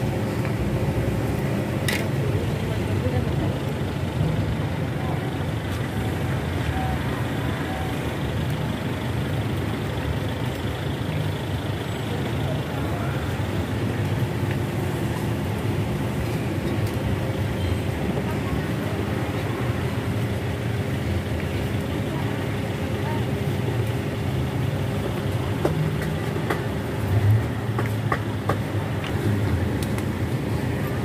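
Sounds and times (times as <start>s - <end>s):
low rumble of street traffic: 0.0s - 31.0s.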